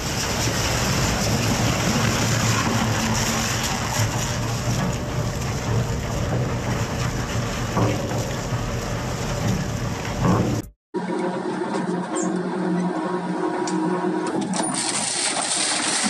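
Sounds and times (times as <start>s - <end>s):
machine tonal hum: 0.0s - 15.0s
industrial shredder running: 0.0s - 16.0s.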